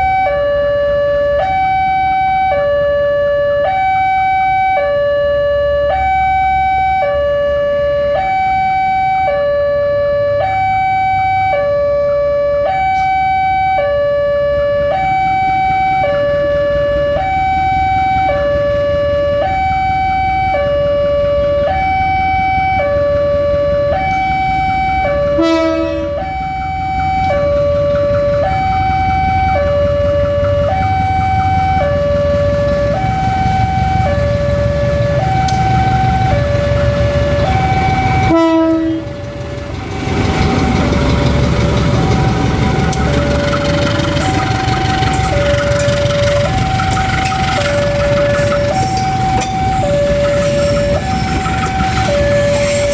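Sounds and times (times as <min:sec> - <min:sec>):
two-tone level-crossing alarm: 0:00.0 - 0:52.9.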